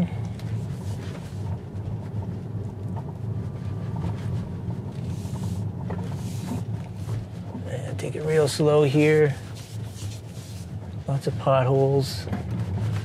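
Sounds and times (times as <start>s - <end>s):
tyre and road rumble: 0.0s - 13.0s.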